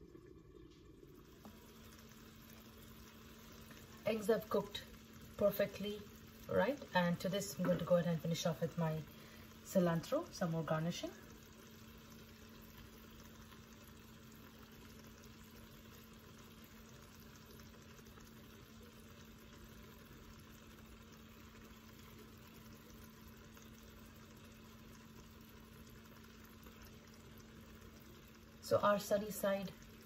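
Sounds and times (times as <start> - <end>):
low even hum: 0.0 - 30.0.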